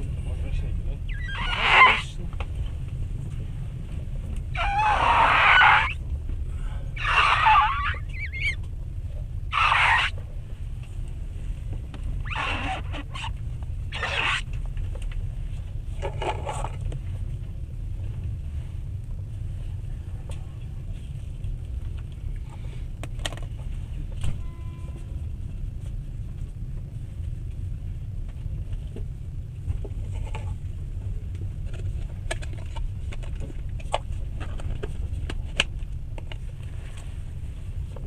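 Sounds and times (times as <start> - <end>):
train rumbling inside carriage: 0.0 - 38.0.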